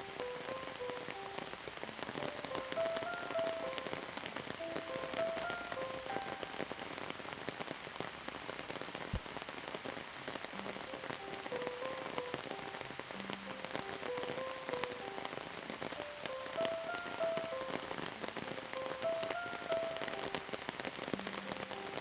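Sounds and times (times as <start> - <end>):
soft faint melody: 0.0 - 7.6, 10.1 - 22.0
steady rain falling: 0.0 - 22.0.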